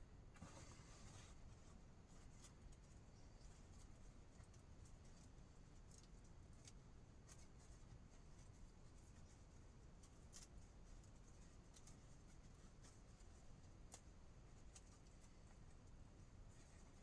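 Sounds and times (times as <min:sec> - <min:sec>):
faint scratchy rustle: 0:00.4 - 0:17.0.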